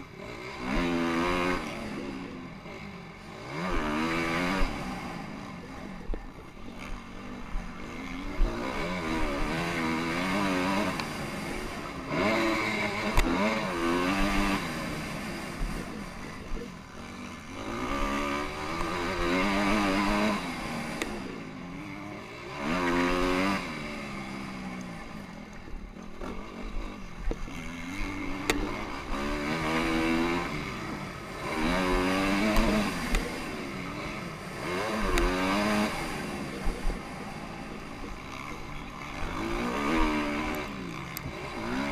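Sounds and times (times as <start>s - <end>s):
motorcycle engine revving hard: 0.0s - 41.9s.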